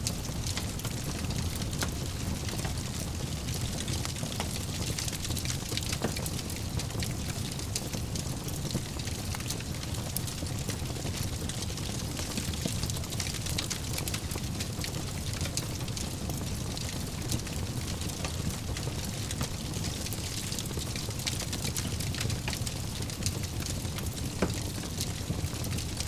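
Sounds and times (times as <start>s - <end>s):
fire crackling and popping: 0.0s - 26.0s
fire rumbling in a fireplace: 0.0s - 26.0s.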